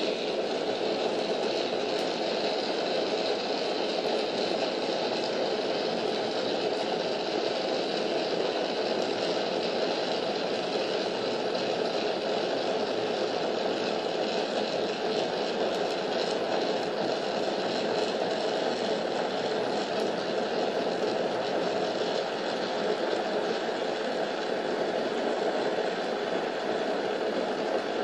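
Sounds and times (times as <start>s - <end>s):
gas torch flame rushing: 0.0s - 28.0s.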